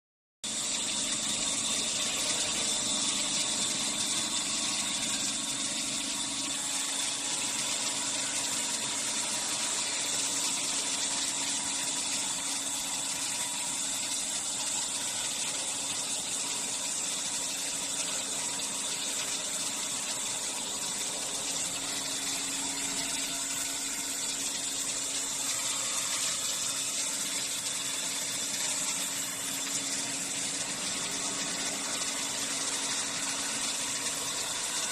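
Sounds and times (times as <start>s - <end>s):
bandsaw running: 0.5s - 34.9s.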